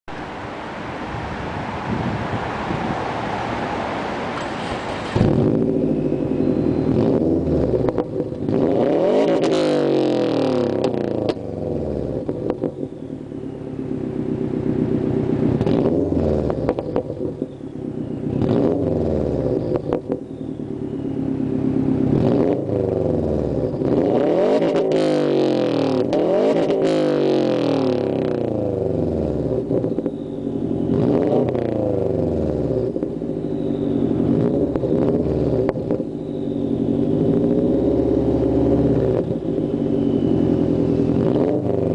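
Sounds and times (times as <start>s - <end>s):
car engine revving: 1.3s - 41.9s.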